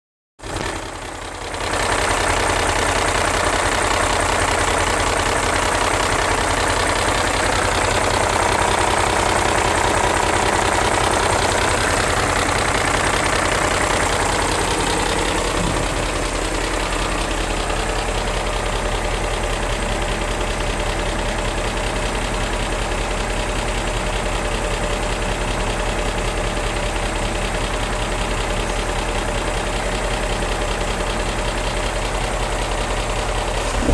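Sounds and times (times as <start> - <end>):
car engine idling: 0.4 - 33.9
engine ticking: 0.4 - 33.9.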